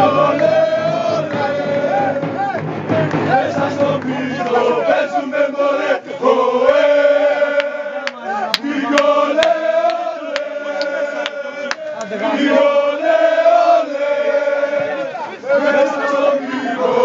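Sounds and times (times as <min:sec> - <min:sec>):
football supporters chanting: 0:00.0 - 0:17.0.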